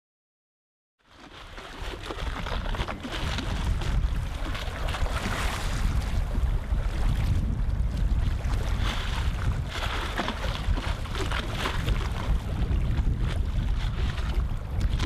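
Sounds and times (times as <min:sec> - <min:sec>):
wind on microphone: 0:01.2 - 0:15.0.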